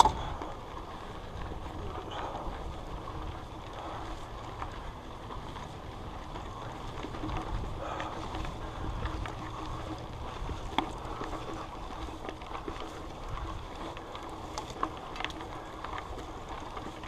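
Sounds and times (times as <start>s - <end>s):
bike clicks and rattles: 0.0s - 17.0s
bike tyres rolling on dirt: 0.0s - 17.0s
wind: 0.0s - 17.0s.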